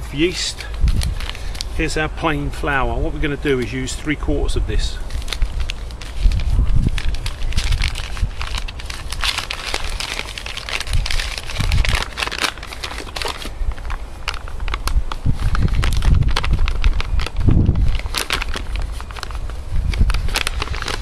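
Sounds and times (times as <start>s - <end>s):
paper packet crinkling: 0.0s - 21.0s.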